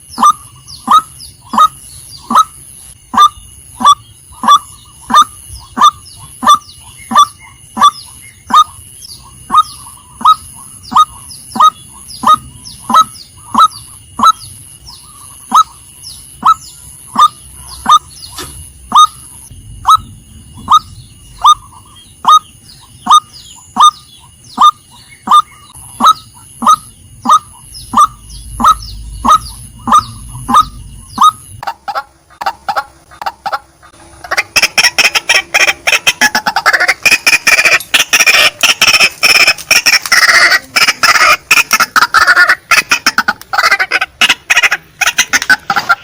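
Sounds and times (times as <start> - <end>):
waterhen calling: 0.0 - 15.8, 16.4 - 46.0.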